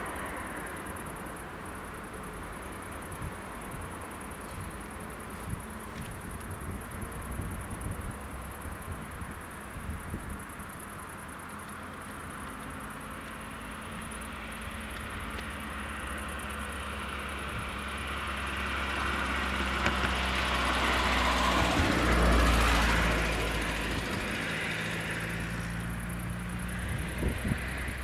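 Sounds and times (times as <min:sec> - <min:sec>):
vehicle engine rumble approaching: 0:00.0 - 0:28.0.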